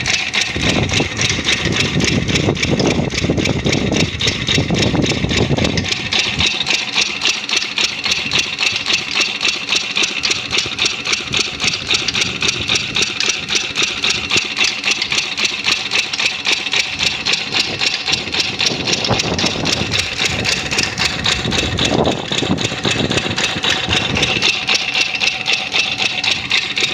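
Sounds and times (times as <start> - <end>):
engine idling: 0.0 - 26.9.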